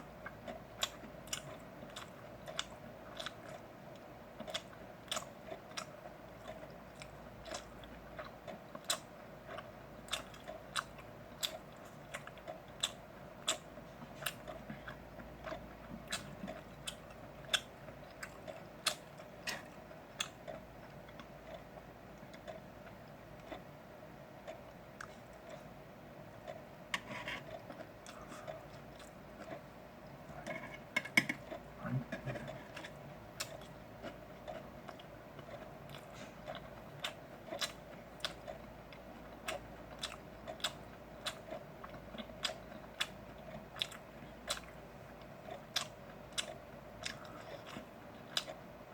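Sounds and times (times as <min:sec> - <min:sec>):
faint steady hum: 0:00.0 - 0:48.9
wet chewing clicks: 0:00.2 - 0:23.7, 0:27.4 - 0:30.6, 0:31.2 - 0:48.6.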